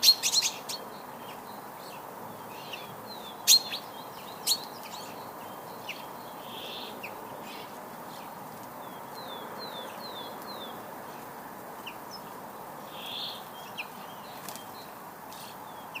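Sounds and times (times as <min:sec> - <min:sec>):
small songbirds chirping: 0:00.0 - 0:16.0
steady background hiss: 0:00.0 - 0:16.0.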